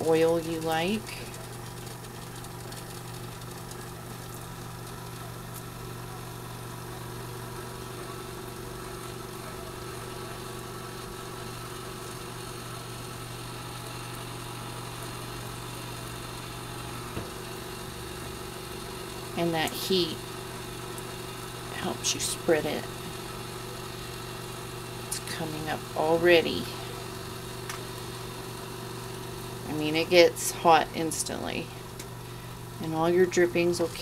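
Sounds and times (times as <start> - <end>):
rotisserie motor humming: 0.0 - 34.0.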